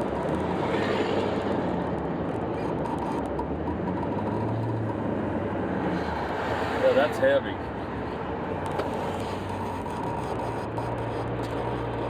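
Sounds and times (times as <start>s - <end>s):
diesel truck road and engine noise: 0.0s - 12.0s.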